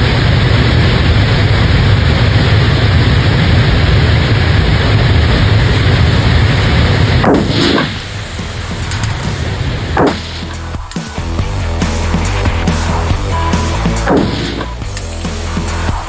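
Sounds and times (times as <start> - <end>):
loud rumbling noise: 0.0 - 16.0.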